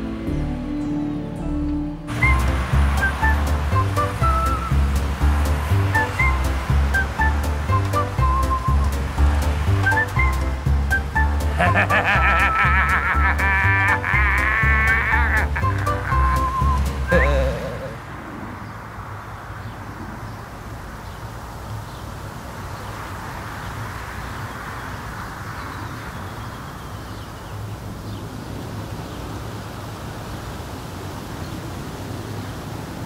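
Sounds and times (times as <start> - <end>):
distant traffic hum: 2.1 - 33.0
street noise: 2.1 - 33.0.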